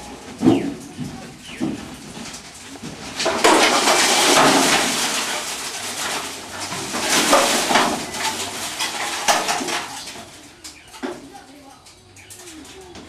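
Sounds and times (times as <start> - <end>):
sheet metal clattering and scraping: 0.0 - 13.0.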